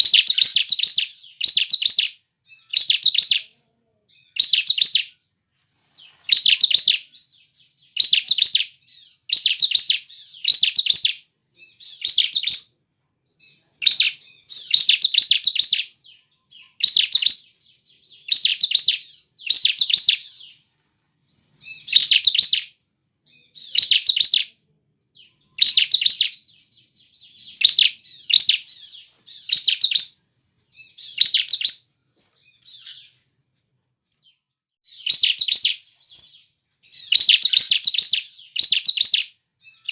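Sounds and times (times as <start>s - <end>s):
bird trilling song: 0.0s - 39.9s.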